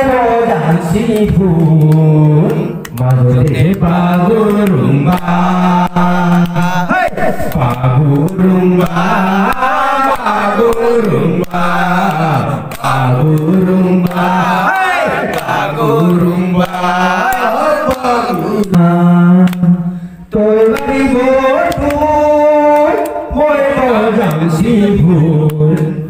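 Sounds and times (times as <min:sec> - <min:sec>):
men singing a chant-like song: 0:00.0 - 0:26.0.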